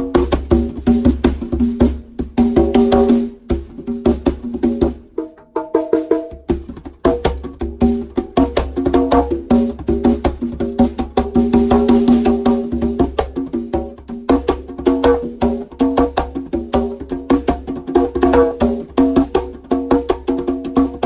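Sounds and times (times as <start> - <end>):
conga drums played by hand: 0.0 - 21.0.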